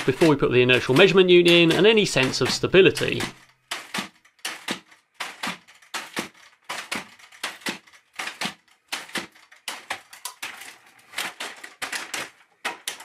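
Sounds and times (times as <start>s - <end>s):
robot dog legs clacking: 0.0s - 13.0s
robot toppling with clatter: 0.0s - 13.0s.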